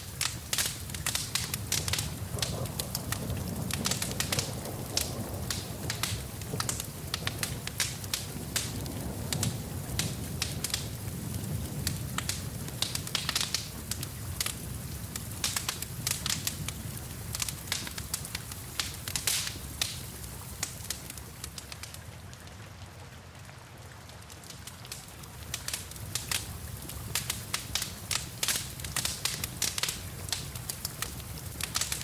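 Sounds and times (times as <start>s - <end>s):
rain hiss: 0.0s - 32.0s
wood fire crackling and popping: 0.0s - 32.0s.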